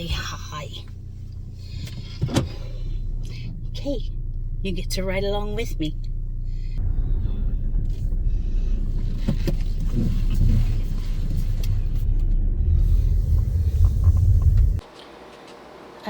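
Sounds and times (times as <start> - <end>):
car interior road rumble: 0.0 - 15.9.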